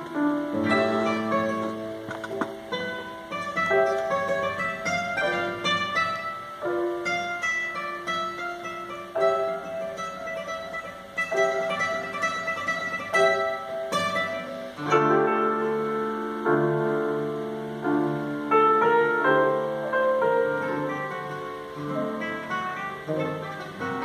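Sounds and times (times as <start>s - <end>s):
classical guitar: 0.0s - 24.0s
grand piano: 0.0s - 24.0s.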